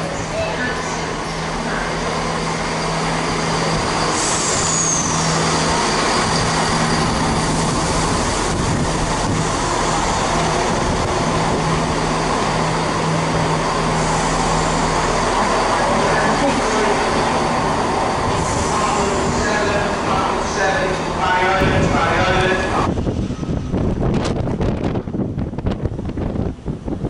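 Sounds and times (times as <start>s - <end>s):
train engine humming: 0.0s - 27.0s
wheel and rail rumble: 0.0s - 27.0s.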